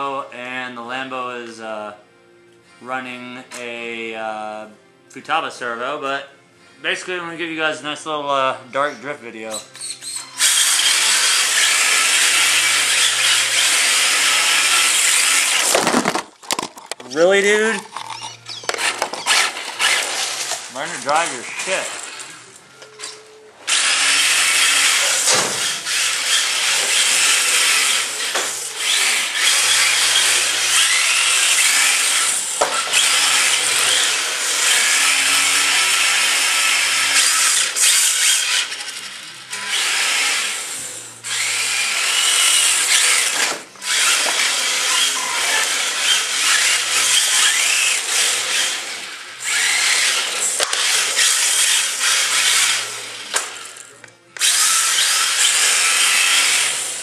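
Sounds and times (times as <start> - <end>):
electric motors whining: 9.5 - 57.0.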